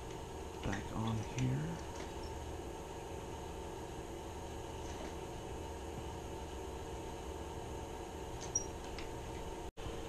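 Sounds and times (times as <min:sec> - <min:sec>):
background hum and hiss: 0:00.0 - 0:10.0.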